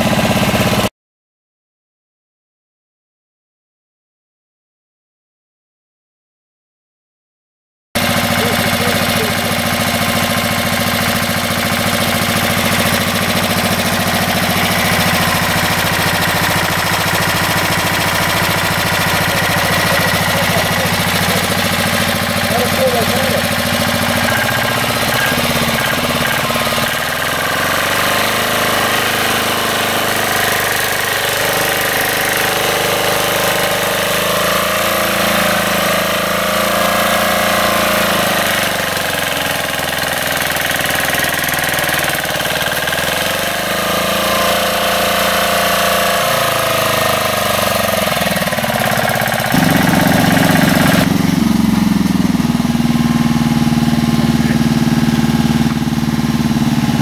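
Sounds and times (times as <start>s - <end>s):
walking tractor engine running: 0.0s - 0.9s, 8.0s - 57.0s.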